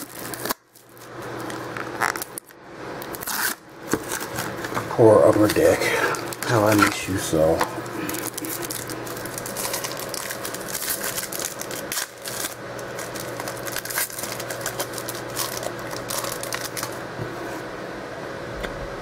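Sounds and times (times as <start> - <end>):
wrappers crumpling: 0.0 - 17.0
steady low hum: 0.0 - 19.0.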